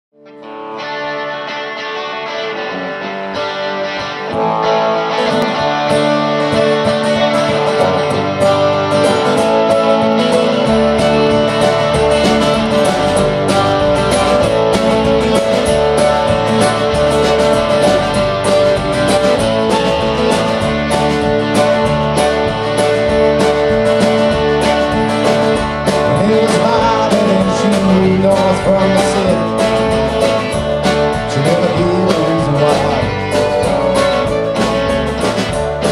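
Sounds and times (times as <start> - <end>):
acoustic guitar strumming: 0.2 - 35.9
electric guitar: 0.2 - 35.9
bass and drums: 5.4 - 35.9.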